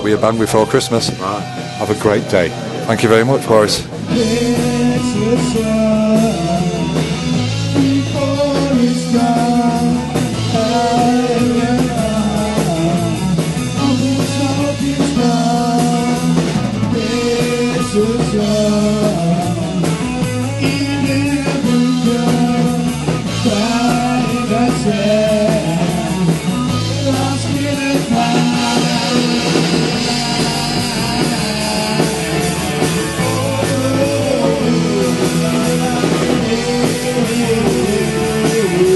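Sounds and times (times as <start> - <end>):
live rock band playing: 0.0 - 38.9
person singing: 3.0 - 38.9.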